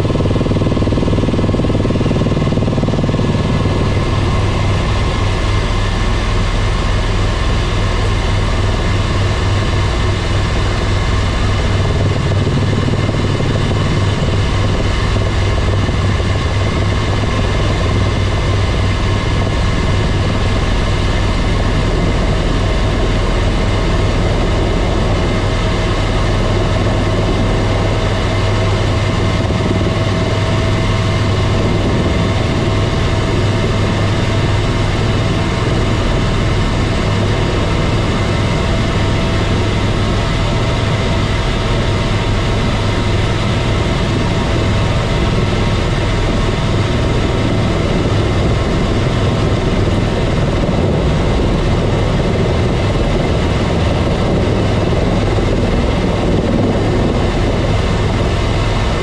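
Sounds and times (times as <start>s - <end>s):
helicopter cabin drone: 0.0s - 59.0s.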